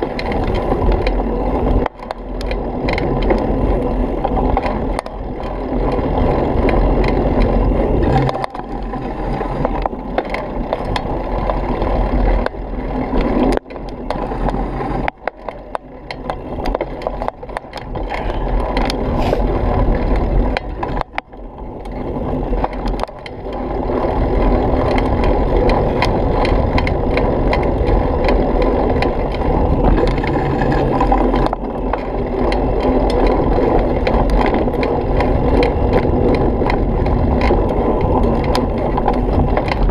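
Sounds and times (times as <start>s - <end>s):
bike parts rattling and clicking: 0.0s - 39.9s
bike tyres on dirt and gravel: 0.0s - 39.9s.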